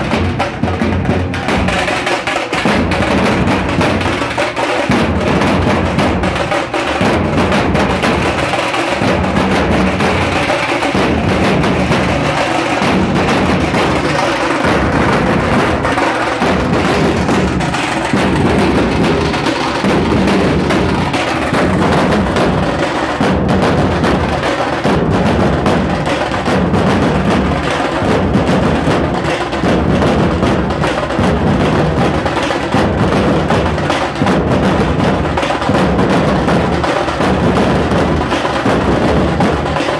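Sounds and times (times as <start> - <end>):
dhol drums beating in unison: 0.0 - 39.9.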